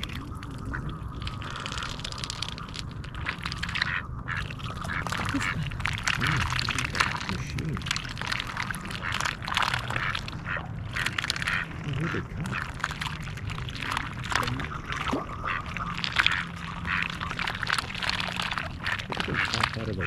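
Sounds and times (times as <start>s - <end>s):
duck dabbling in water: 0.0s - 20.0s.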